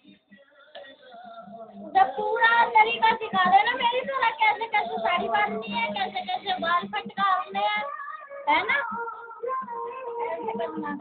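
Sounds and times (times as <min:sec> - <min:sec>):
high-pitched voice singing: 0:01.3 - 0:11.0.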